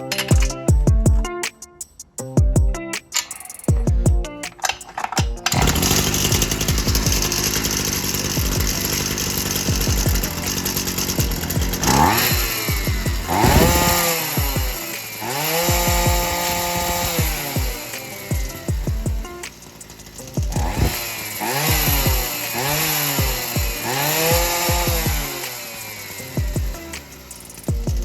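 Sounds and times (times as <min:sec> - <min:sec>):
background music with beat: 0:00.0 - 0:28.0
brushcutter engine revving: 0:05.4 - 0:28.0.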